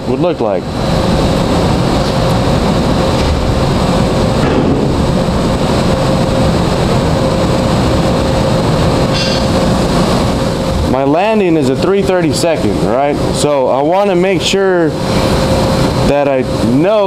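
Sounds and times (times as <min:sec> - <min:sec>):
constant hum: 0:00.0 - 0:17.0
loud mechanical drone: 0:00.0 - 0:17.0.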